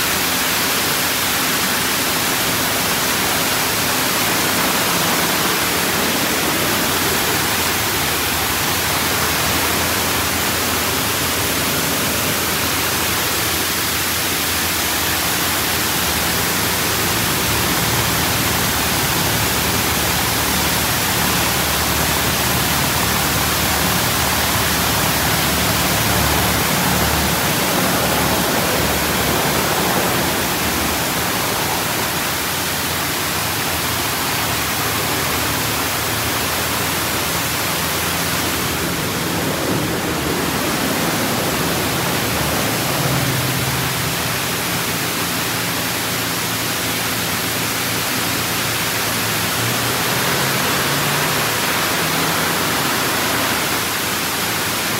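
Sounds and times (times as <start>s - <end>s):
car wash water or air rushing: 0.0s - 54.9s.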